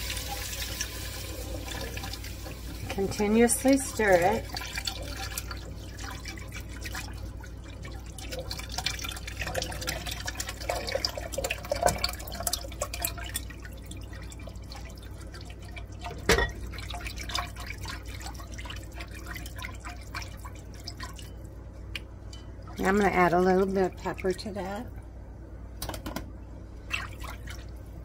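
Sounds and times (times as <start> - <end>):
liquid pouring and splashing: 0.0 - 21.5, 26.8 - 28.0.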